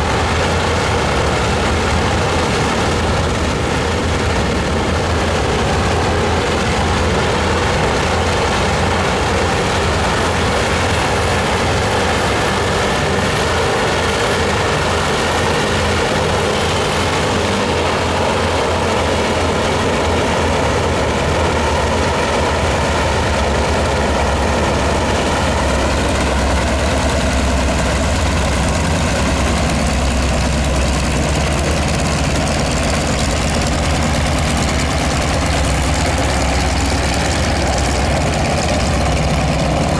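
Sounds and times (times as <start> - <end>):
radial aircraft engines idling: 0.0 - 39.9.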